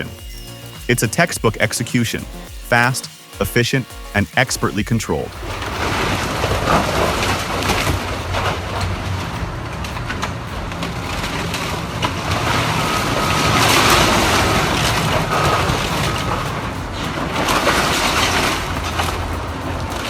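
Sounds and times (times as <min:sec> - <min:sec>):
excavator diesel engine humming: 0:00.0 - 0:20.0
thin high steady tone: 0:00.0 - 0:20.0.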